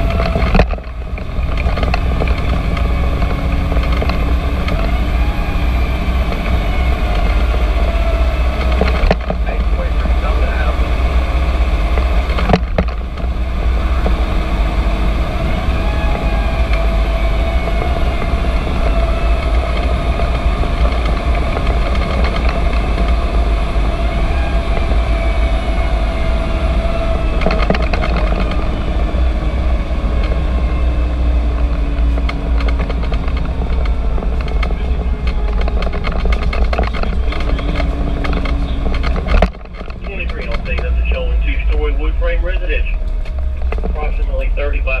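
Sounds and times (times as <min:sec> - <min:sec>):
fire engine rumble: 0:00.0 - 0:45.0
whine drifting in pitch: 0:00.0 - 0:45.0.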